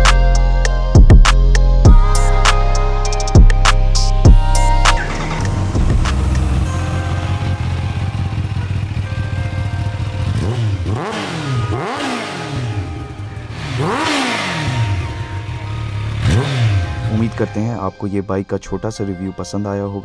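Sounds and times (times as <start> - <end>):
motorcycle engine idling and revving: 0.0 - 17.7.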